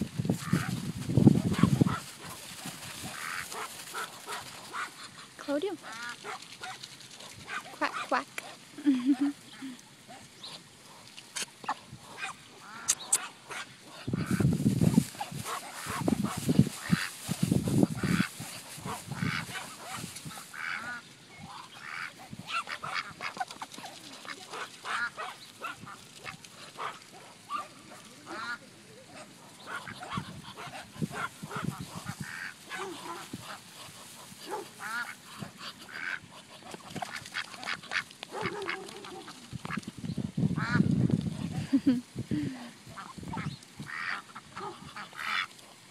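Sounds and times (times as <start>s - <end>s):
ducks quacking: 0.0s - 6.8s, 11.4s - 39.8s, 40.6s - 41.9s, 42.8s - 45.8s.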